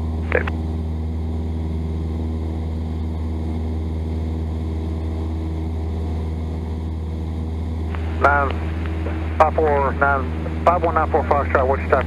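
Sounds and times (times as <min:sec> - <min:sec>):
plane engine and propeller droning: 0:00.0 - 0:12.0.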